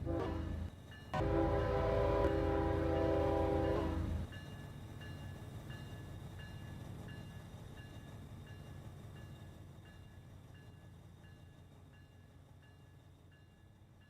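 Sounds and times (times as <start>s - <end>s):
railroad crossing bell dinging: 0.0s - 13.8s
freight train rumble: 0.0s - 14.0s.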